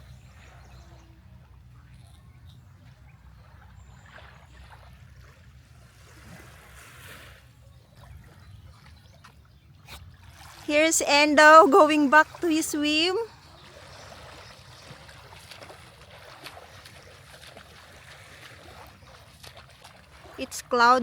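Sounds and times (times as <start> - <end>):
soft water sounds: 0.0 - 21.0.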